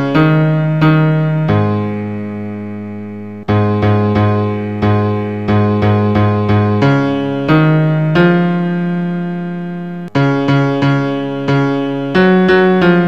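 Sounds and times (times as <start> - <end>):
piano sound keyboard notes: 0.0 - 13.0.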